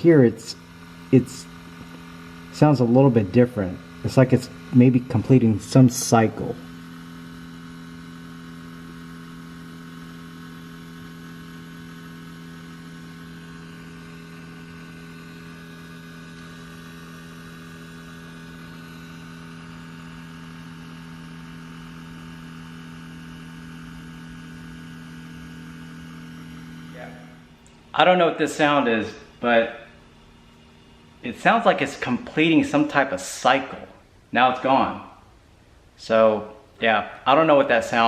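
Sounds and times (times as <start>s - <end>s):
electrical hum from car: 0.0s - 38.0s.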